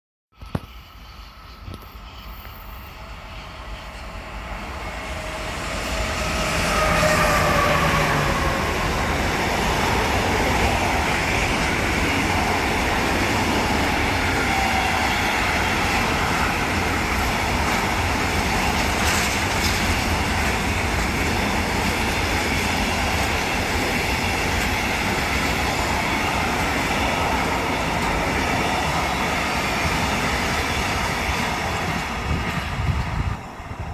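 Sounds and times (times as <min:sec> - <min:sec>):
electric locomotive whine: 0:00.4 - 0:33.9.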